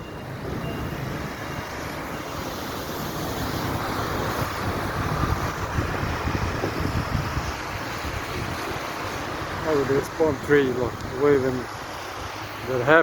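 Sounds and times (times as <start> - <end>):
wind buffeting microphone: 0.0 - 13.0
steady rain: 0.3 - 13.0.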